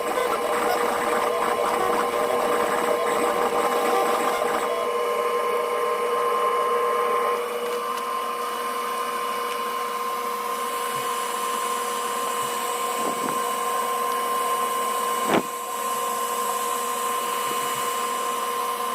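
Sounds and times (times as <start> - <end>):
laser engraver motor whine: 0.0 - 18.9.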